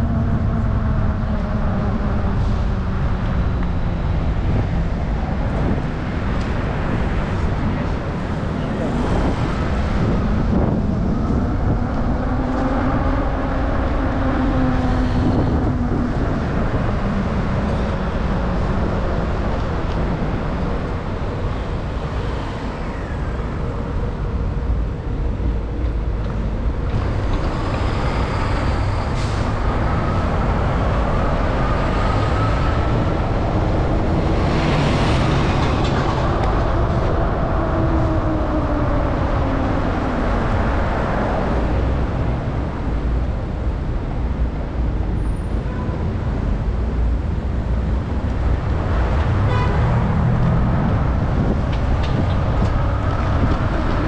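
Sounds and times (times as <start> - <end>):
motor vehicles passing: 0.0 - 45.4, 46.0 - 54.0
low traffic rumble: 0.0 - 54.0.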